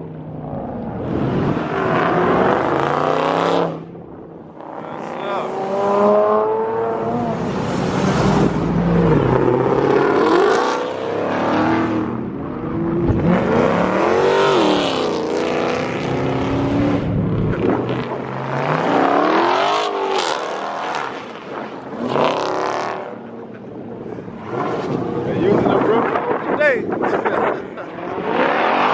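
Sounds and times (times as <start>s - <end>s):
cars accelerating past: 0.3s - 28.9s.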